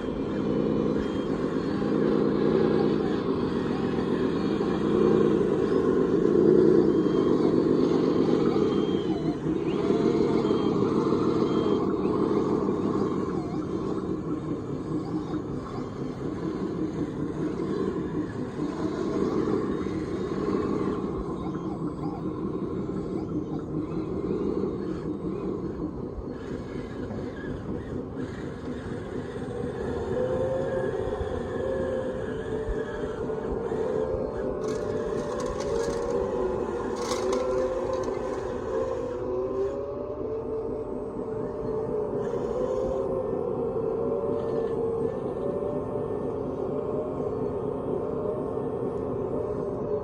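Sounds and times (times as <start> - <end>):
faint whining tone: 0.0 - 50.0
mechanical rumble: 0.0 - 50.0
model machine motors droning: 0.0 - 50.0.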